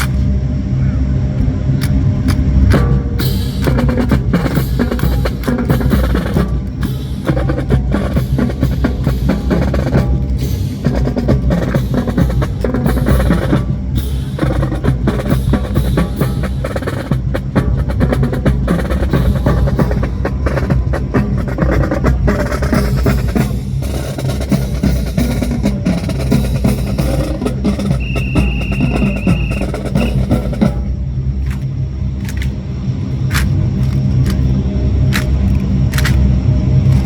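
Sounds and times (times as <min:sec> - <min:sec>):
drum and percussion music: 0:01.4 - 0:32.6, 0:33.2 - 0:34.5, 0:35.1 - 0:36.2.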